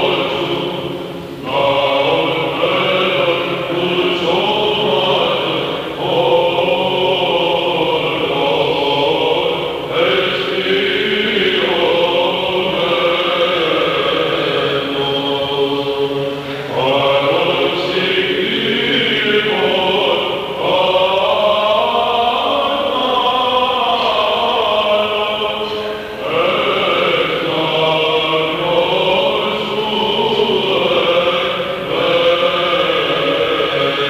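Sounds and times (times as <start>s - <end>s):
person chanting: 0.0s - 34.0s.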